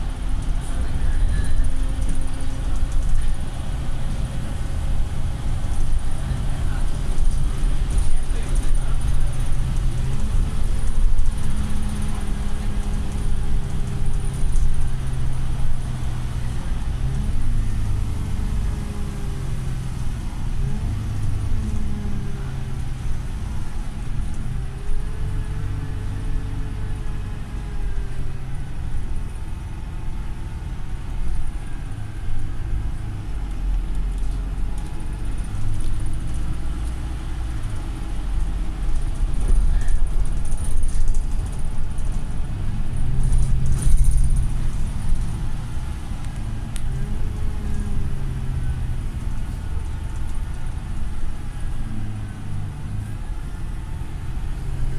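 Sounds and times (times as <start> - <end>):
bus engine drone with whine: 0.0 - 54.9.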